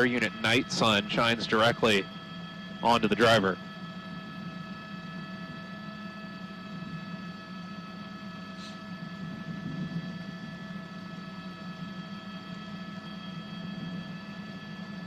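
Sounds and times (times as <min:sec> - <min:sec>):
helicopter cabin drone: 0:00.0 - 0:15.0
high engine and rotor whine: 0:00.0 - 0:15.0.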